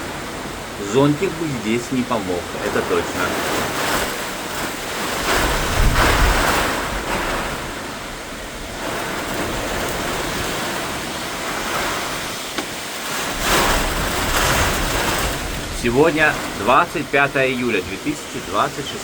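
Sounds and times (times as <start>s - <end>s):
wind buffeting microphone: 0.0s - 19.0s
wind driving heavy rain: 0.0s - 19.0s.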